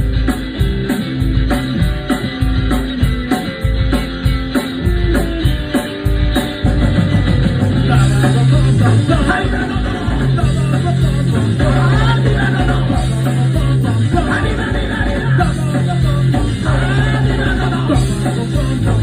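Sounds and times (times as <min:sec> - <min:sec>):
electric guitar: 0:00.0 - 0:19.0
held bass line: 0:00.0 - 0:19.0
rock band playing live: 0:00.0 - 0:19.0.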